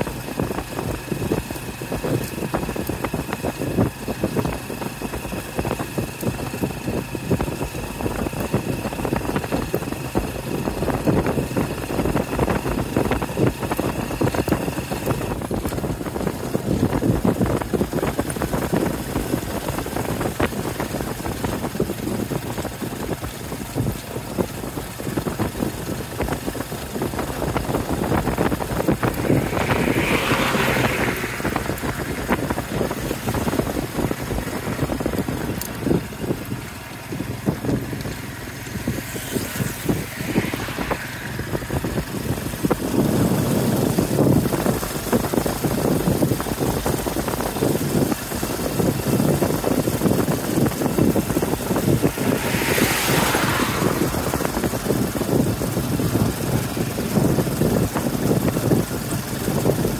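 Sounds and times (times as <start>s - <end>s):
engine drone: 0.0s - 59.9s
road noise: 0.0s - 59.9s
vehicles passing: 0.0s - 59.9s.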